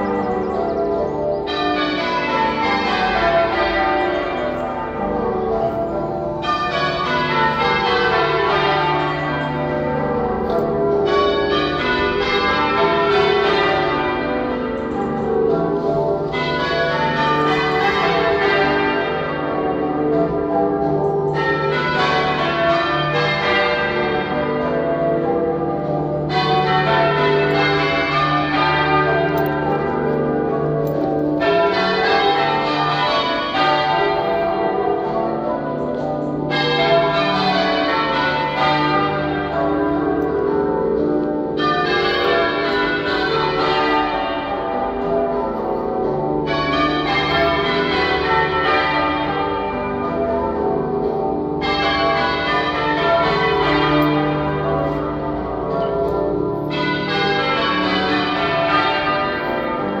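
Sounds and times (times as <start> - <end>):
half-muffled church bells ringing: 0.0 - 60.0.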